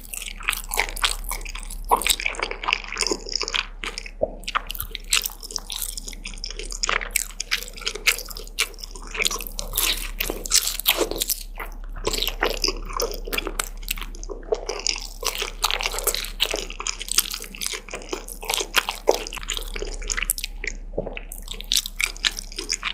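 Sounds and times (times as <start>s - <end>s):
person chewing food: 0.0s - 22.9s.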